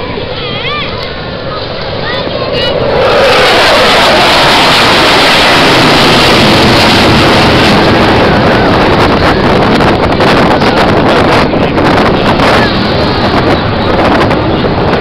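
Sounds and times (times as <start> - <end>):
fighter jet engine rushing: 0.0 - 15.0.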